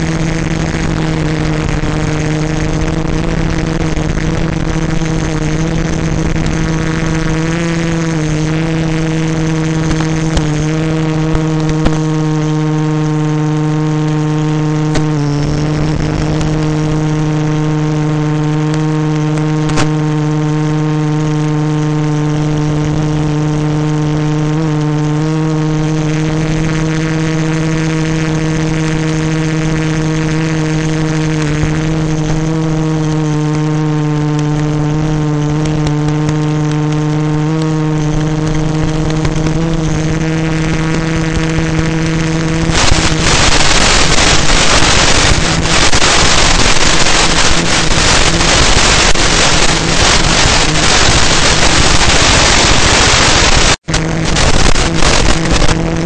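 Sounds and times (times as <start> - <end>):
drone propellers droning: 0.0 - 56.0
wind on microphone: 0.0 - 56.0.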